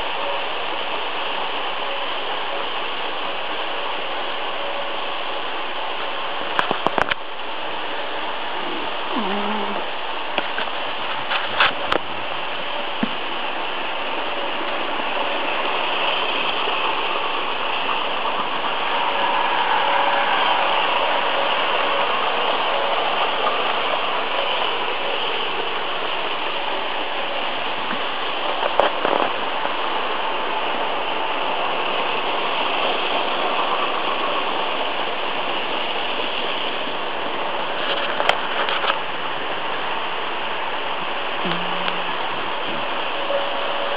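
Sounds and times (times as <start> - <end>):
model trains running on metal track: 0.0 - 9.2, 9.8 - 43.9.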